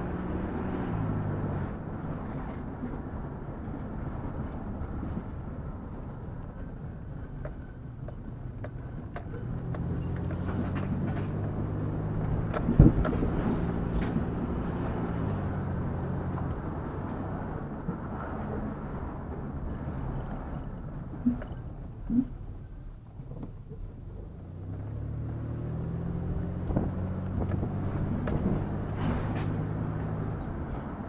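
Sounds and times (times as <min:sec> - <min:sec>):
road noise: 0:00.0 - 0:31.0
vehicle engine running: 0:00.0 - 0:31.0.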